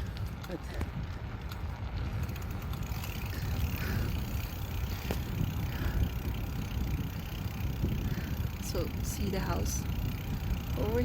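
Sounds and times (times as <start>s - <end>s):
bicycle road noise: 0.0s - 11.0s
wind rumbling on microphone: 0.0s - 11.0s.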